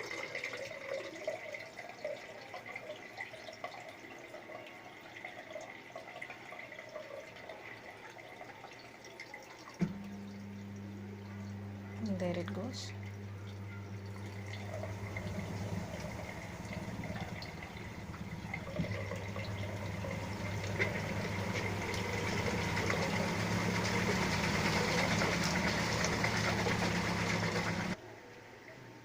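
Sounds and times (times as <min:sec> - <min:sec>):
washing machine spinning: 0:00.0 - 0:28.0
water rushing and draining: 0:00.0 - 0:28.0.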